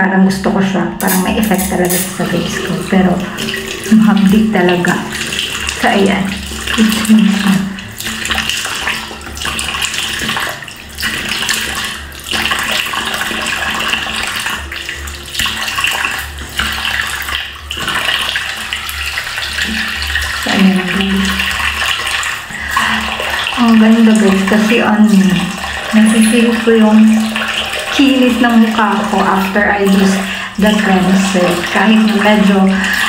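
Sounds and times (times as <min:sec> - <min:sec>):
tap water running and splashing: 0:01.0 - 0:33.0.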